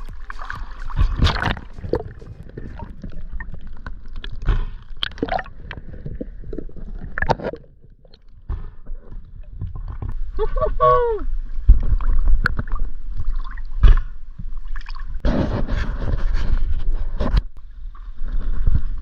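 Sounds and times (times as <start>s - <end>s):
water splashing and gurgling: 0.0s - 19.0s.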